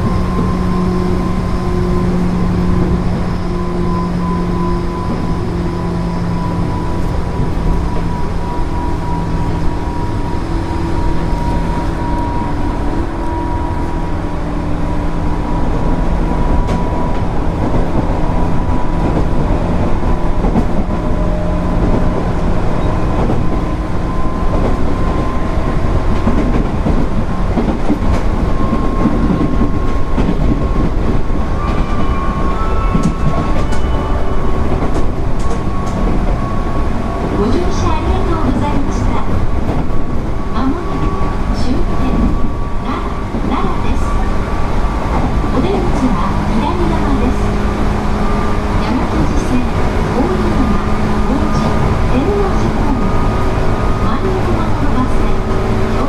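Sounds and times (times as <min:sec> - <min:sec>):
train wheel and rail rumble: 0:00.0 - 0:56.0.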